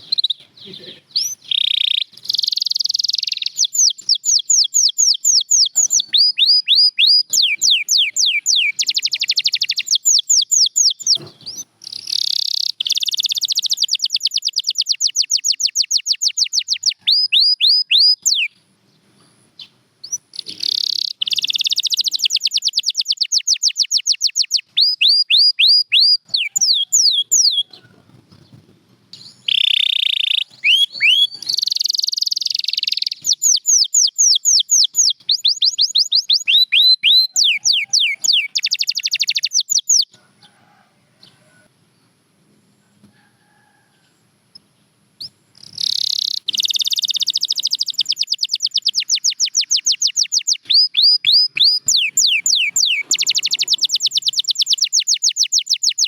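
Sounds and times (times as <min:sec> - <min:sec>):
canary singing: 0:00.0 - 0:18.6, 0:19.6 - 0:41.7, 0:44.5 - 0:56.0.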